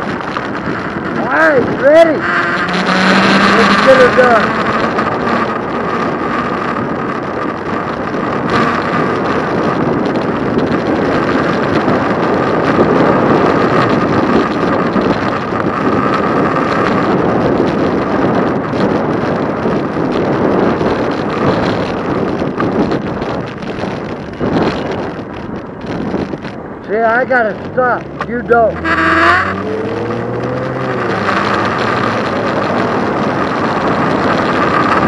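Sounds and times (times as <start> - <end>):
road noise: 0.0 - 35.0
wind over microphone: 0.0 - 35.0.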